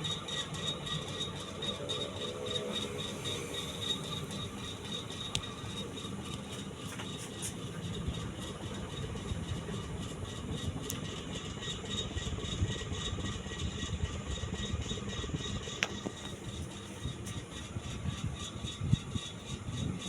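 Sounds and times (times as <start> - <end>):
ceiling fan motor hum: 0.0 - 20.0.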